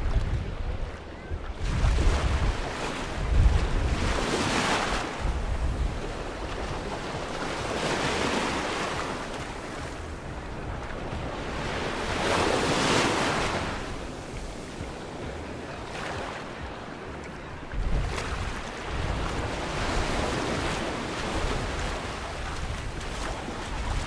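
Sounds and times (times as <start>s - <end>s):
sea waves breaking: 0.0s - 24.0s
wind buffeting microphone: 0.0s - 24.0s.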